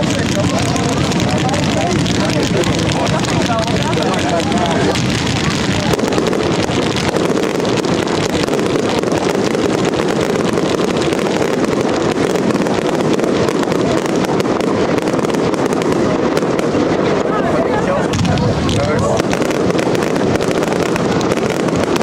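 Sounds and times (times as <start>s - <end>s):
fireworks firing and crackling: 0.0s - 22.0s.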